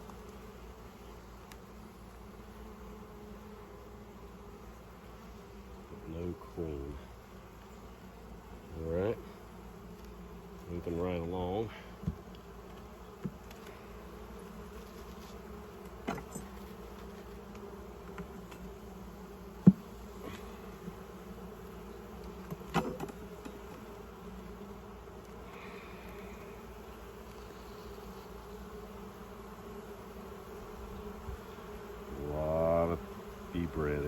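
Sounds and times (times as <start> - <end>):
honey bees buzzing: 0.0 - 34.0.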